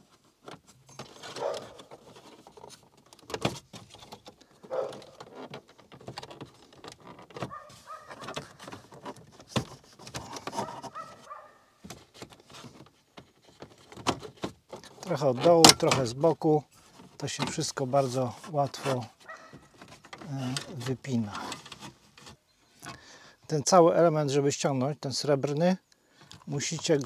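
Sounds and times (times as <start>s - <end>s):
plastic trim clicking and creaking: 0.0s - 16.2s, 16.9s - 23.0s, 26.2s - 27.0s.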